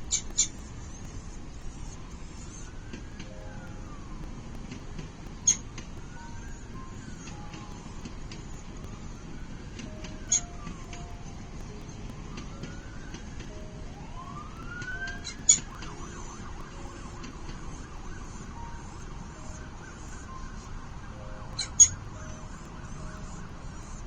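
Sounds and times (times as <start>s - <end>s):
background hiss: 0.0s - 24.0s
distant siren wailing: 0.0s - 24.0s.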